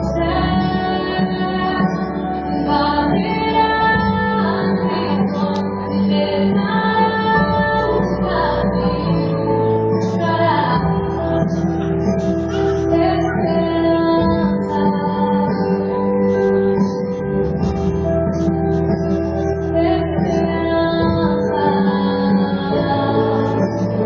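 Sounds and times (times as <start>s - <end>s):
woman singing: 0.0s - 16.8s, 19.7s - 24.0s
instrumental backing music: 0.0s - 24.0s.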